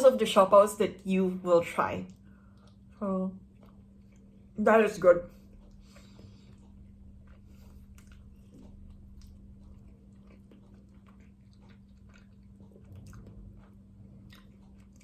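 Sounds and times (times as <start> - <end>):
steady low hum: 0.0 - 15.0
chewing soft bun: 2.0 - 15.0.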